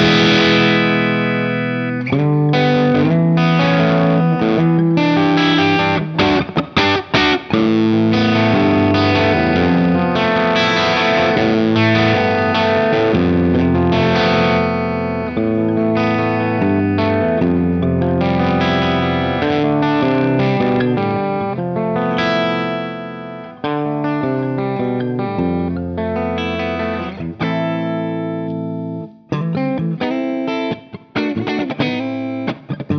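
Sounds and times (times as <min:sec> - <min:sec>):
distorted electric guitar chords: 0:00.0 - 0:32.9.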